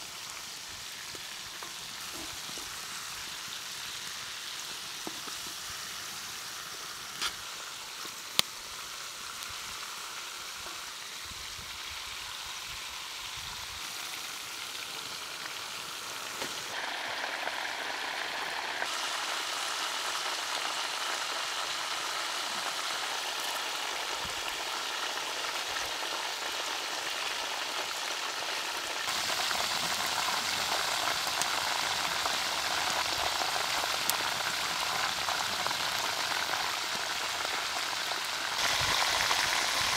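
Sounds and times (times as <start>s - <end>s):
meat fat sizzling in a pot: 0.0s - 39.9s.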